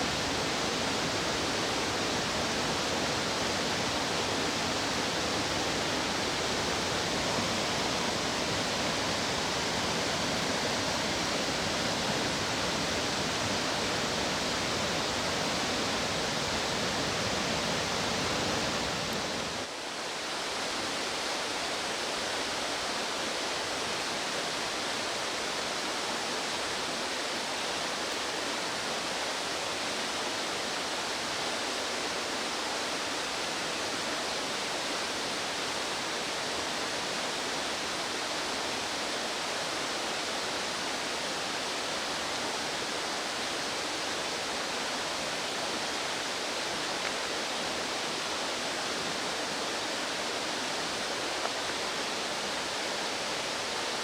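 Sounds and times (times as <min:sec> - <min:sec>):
fast-flowing stream water: 0:00.0 - 0:54.0.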